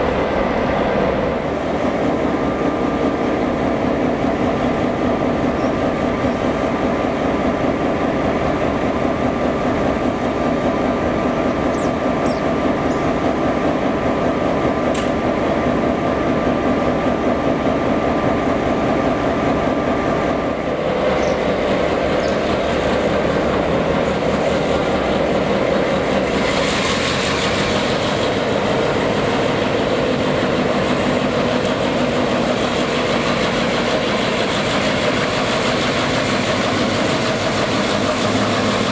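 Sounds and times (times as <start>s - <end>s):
train mechanical hum: 0.0s - 38.9s.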